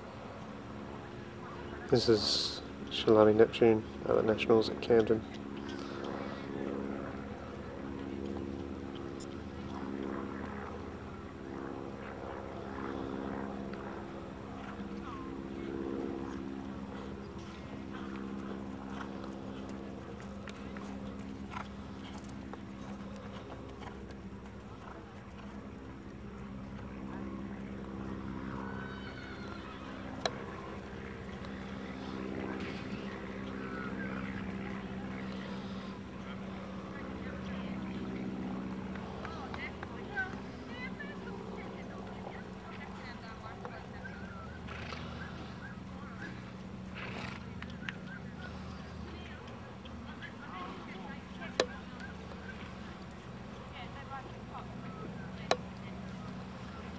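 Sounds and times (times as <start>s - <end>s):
faint voices: 0.0s - 56.9s
low motor hum: 0.0s - 56.9s.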